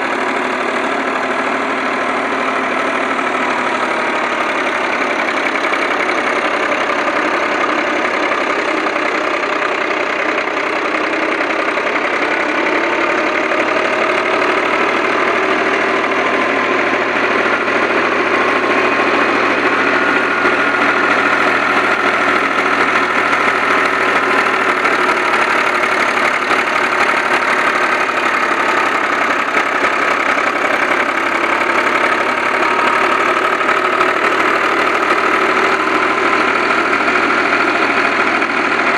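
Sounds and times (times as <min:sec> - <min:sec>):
tractor driving thresher: 0:00.0 - 0:38.9.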